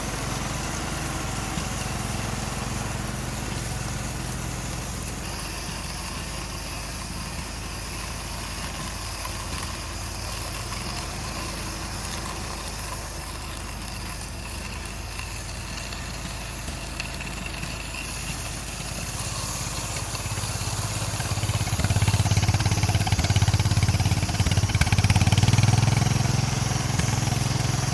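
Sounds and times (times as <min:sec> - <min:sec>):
tractor engine rumbling: 0:00.0 - 0:27.9.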